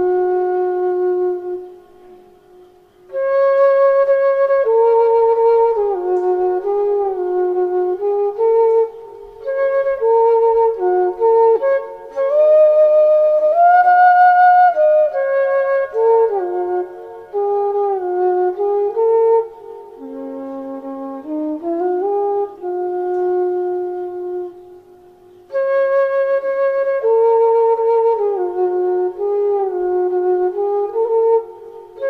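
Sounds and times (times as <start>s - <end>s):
slow flute-like melody: 0.0s - 32.0s.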